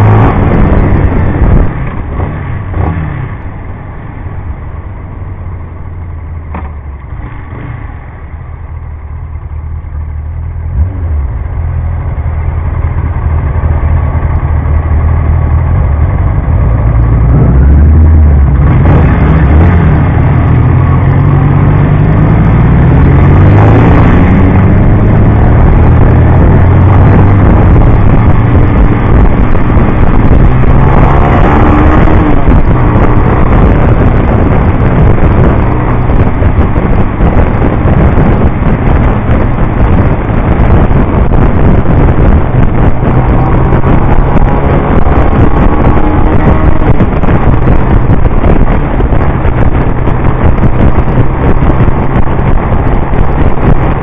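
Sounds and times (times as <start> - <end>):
motorcycle engine revving: 0.0 - 8.3, 10.5 - 54.0.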